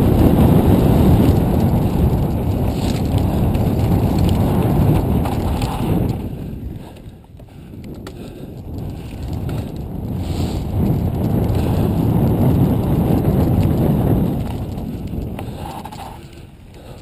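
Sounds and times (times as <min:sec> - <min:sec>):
tyres rolling over dirt trail: 0:00.0 - 0:17.0
wind buffeting microphone: 0:00.0 - 0:17.0.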